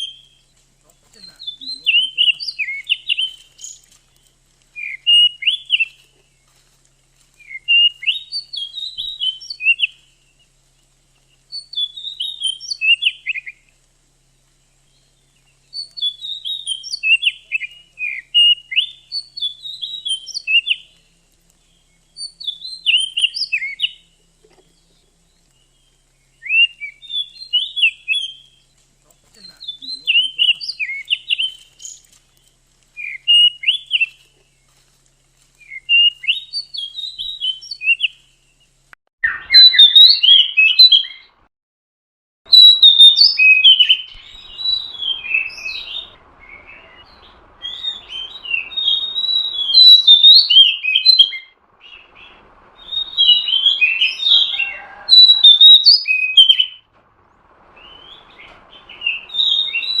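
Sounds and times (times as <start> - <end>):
bird chirping and whistling: 0.0 - 6.6, 7.3 - 10.5, 11.2 - 13.7, 14.8 - 24.1, 24.7 - 34.3, 35.6 - 38.3, 39.2 - 41.3, 42.5 - 60.0.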